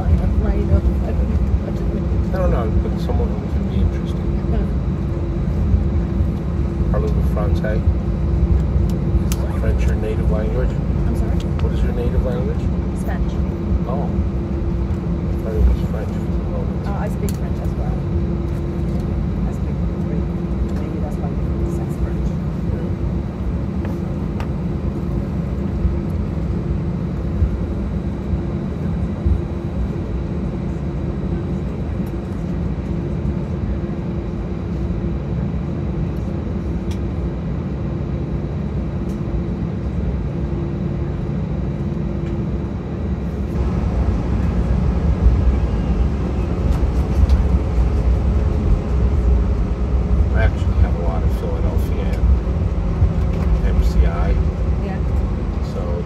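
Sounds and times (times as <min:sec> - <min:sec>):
jet cabin engine rumble: 0:00.0 - 0:56.0.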